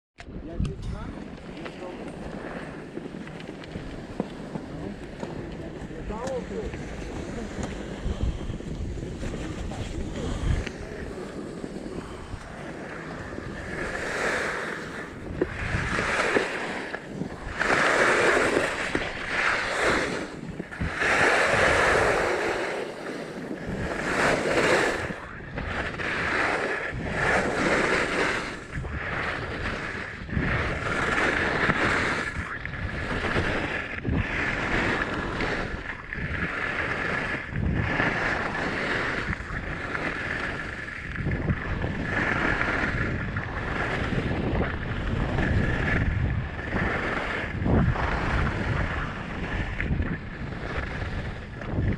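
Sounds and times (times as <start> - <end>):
wind on microphone: 0.2 - 51.9
skis scraping over snow: 0.8 - 51.9.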